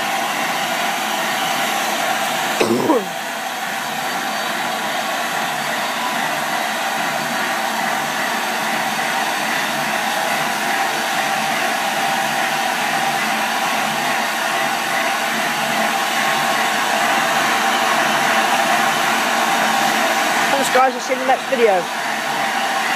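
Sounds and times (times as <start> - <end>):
steam hissing loudly: 0.0 - 22.9.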